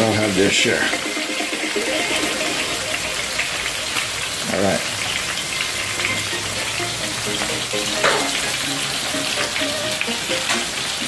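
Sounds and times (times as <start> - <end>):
fish sizzling in hot oil: 0.0 - 11.0
oil crackling: 0.0 - 11.0.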